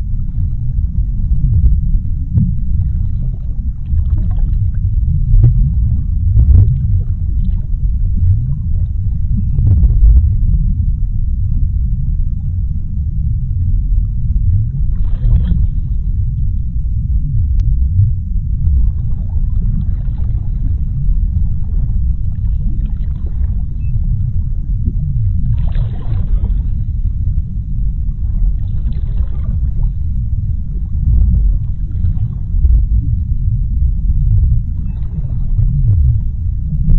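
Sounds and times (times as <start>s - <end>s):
deep underwater rumble: 0.0s - 36.9s.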